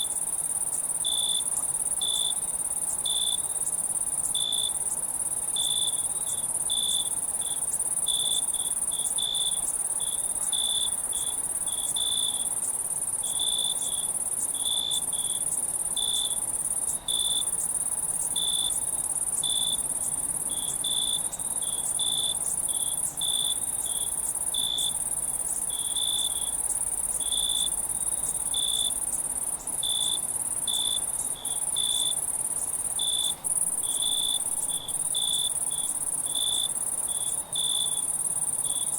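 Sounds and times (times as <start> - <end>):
crickets trilling: 0.0 - 38.9
lower cricket chirp: 0.0 - 38.9.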